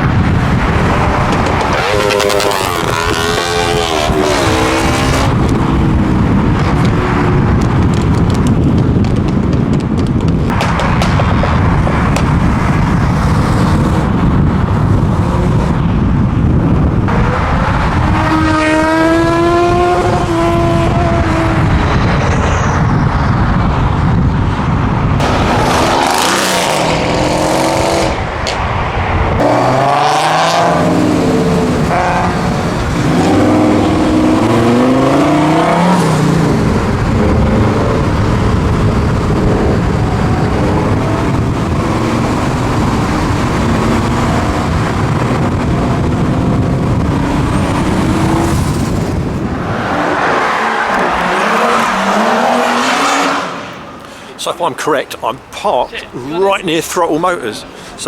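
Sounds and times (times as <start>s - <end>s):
car engines accelerating: 0.0s - 58.0s
loud road noise: 0.0s - 58.0s.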